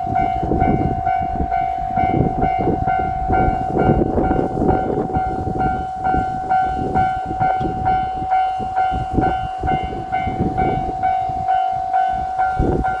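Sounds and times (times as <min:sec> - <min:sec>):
crossing warning bell ringing: 0:00.0 - 0:13.0
diesel train rumbling past: 0:00.0 - 0:13.0
train wheel clatter: 0:00.0 - 0:13.0.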